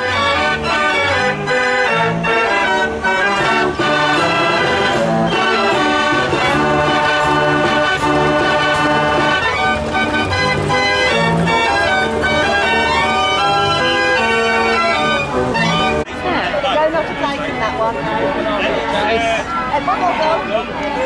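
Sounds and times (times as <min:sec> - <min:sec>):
fair organ playing: 0:00.0 - 0:21.0.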